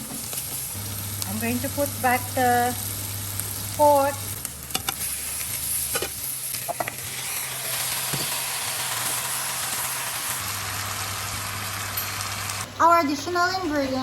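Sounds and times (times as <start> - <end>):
meat sizzling in fat: 0.0 - 12.7.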